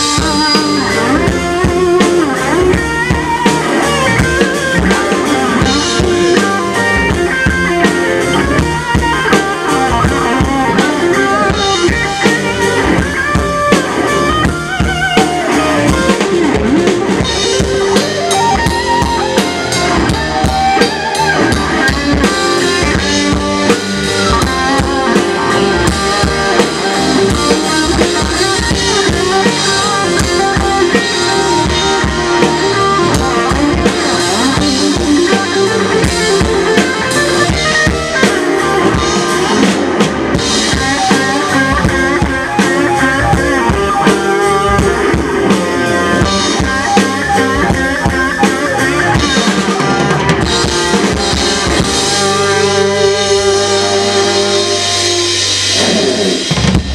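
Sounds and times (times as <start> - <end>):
drum kit beat: 0.0 - 56.9
rock band playing: 0.0 - 56.9.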